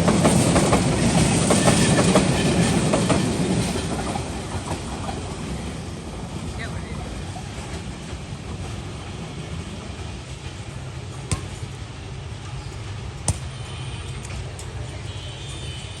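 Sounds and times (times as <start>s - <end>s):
train rumbling: 0.0s - 13.2s.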